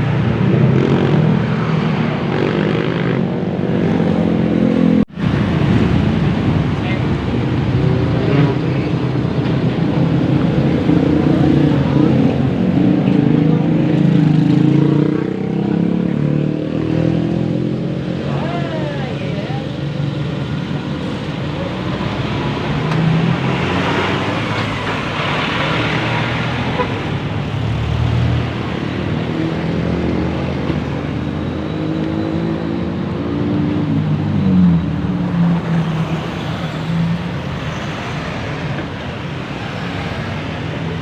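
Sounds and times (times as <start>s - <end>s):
heavy engine: 0.0s - 41.0s
road traffic passing: 0.0s - 41.0s.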